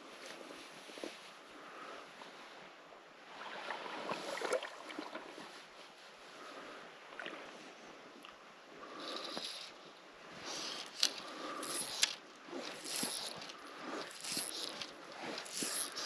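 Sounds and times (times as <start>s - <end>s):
water sloshing and lapping: 0.4s - 16.0s.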